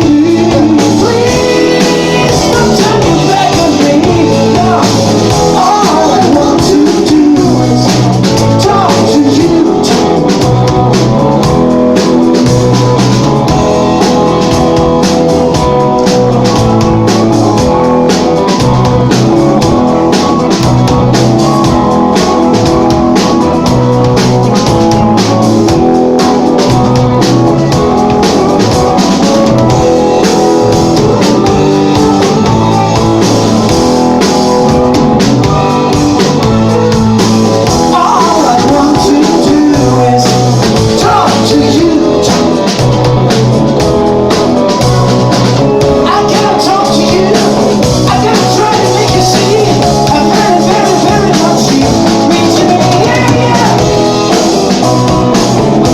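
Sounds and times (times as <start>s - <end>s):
rock band playing: 0.0s - 55.9s.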